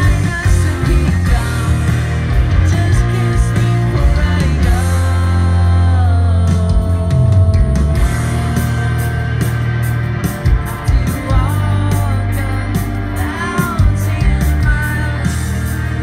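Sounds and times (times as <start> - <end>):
man singing: 0.0 - 8.9, 10.6 - 16.0
bass guitar: 0.0 - 16.0
drums with cymbal strokes: 0.0 - 16.0
electric guitars: 0.0 - 16.0.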